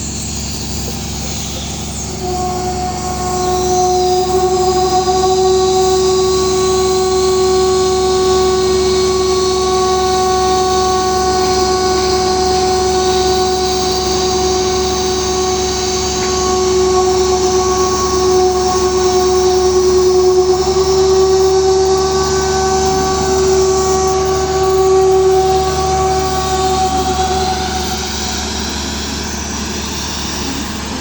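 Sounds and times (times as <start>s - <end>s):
hissing rumbling noise: 0.0s - 31.0s
machine whining: 0.0s - 31.0s.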